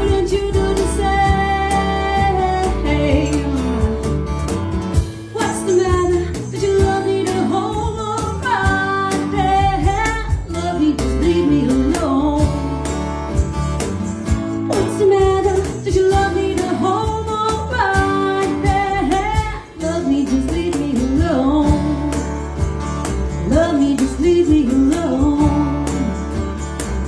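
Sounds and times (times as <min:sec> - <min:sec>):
guitar: 0:00.0 - 0:27.0.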